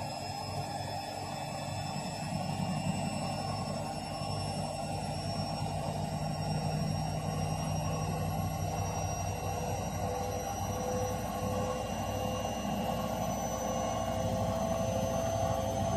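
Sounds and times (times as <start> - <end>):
washing machine spinning: 0.0 - 15.9.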